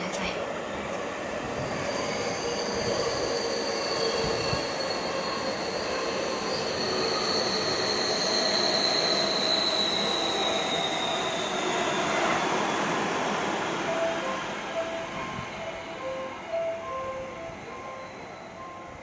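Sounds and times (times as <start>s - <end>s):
train rumble: 0.0s - 19.0s
train wheels squealing: 0.6s - 19.0s.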